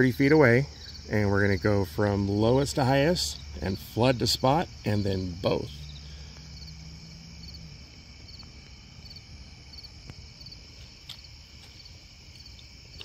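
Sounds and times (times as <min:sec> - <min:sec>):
crickets chirping: 0:00.0 - 0:13.0
low steady hum: 0:00.0 - 0:13.0.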